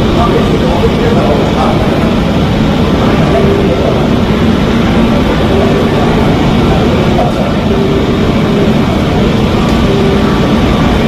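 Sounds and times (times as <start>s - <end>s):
faint steady tones: 0.0s - 11.0s
jet engines rumbling: 0.0s - 11.0s.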